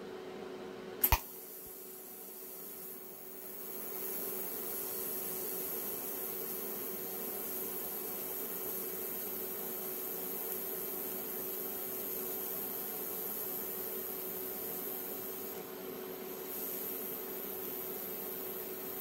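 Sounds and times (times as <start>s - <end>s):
welding arc hissing: 1.0s - 19.0s.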